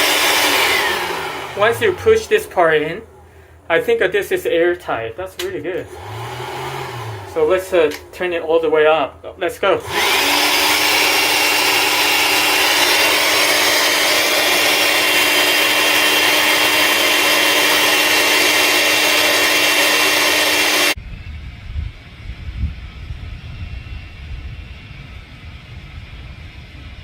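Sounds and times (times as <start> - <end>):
leaf blower whoosh and hum: 0.0 - 3.9, 5.4 - 24.6.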